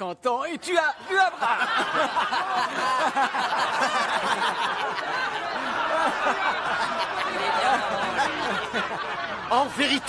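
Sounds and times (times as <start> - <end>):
men laughing scornfully: 1.0 - 9.5.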